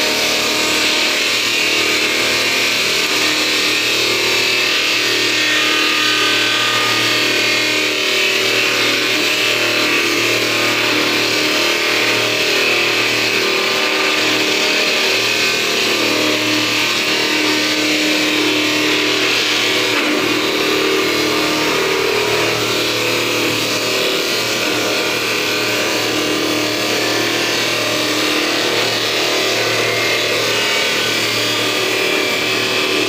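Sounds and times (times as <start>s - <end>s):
sawdust machine running: 0.0s - 33.0s.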